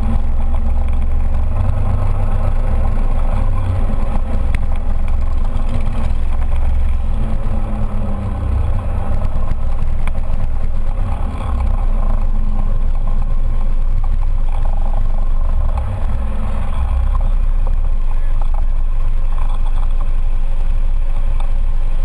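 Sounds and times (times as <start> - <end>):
heavy low rumble: 0.0 - 22.0
motorcycles and scooters: 0.0 - 22.0
scooter engine running: 0.0 - 22.0.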